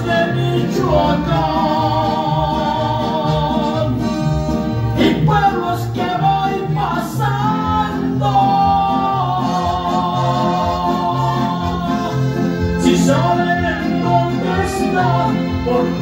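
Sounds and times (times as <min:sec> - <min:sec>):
loud dance music with singing: 0:00.1 - 0:16.0.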